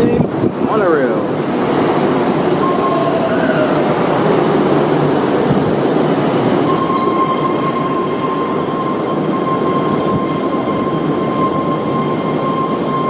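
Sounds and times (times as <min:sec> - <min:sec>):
monorail train rushing: 0:00.0 - 0:13.0
high whining tones: 0:01.5 - 0:05.4, 0:06.2 - 0:13.0.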